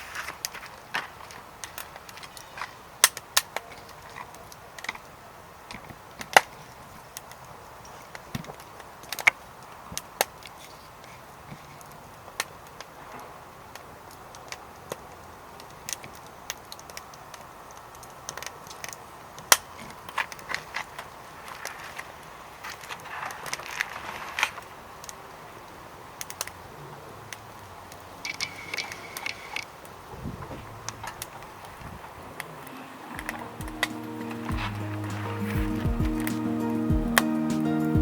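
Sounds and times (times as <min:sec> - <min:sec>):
faint steady hiss: 0:00.0 - 0:38.0
wood fire crackling and popping: 0:00.0 - 0:38.0.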